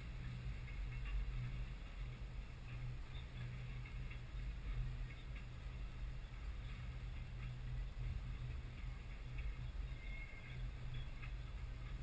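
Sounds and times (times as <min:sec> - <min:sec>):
wheels clicking on rails: 0:00.0 - 0:12.0.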